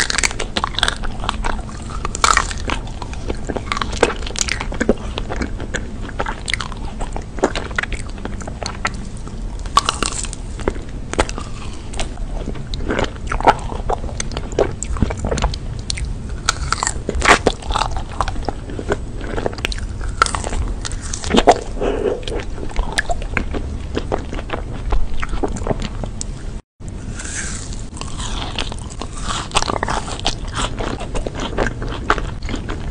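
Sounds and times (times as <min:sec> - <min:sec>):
chewing ice cream bar: 0:00.0 - 0:26.4, 0:27.1 - 0:32.9.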